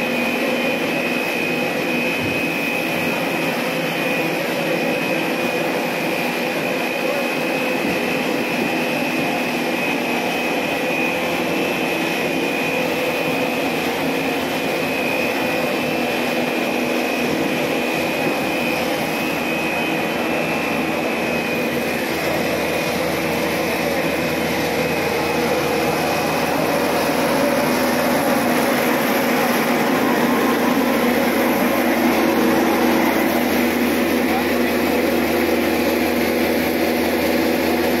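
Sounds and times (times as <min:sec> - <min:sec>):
machine high whine: 0:00.0 - 0:38.0
machine low hum: 0:00.0 - 0:38.0.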